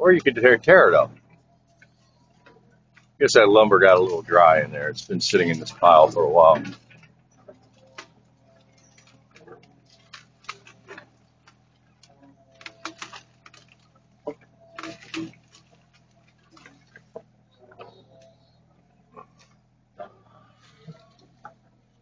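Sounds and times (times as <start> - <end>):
machine hum: 0.0 - 22.0
dry wood cracking and snapping: 0.9 - 19.8, 20.5 - 22.0.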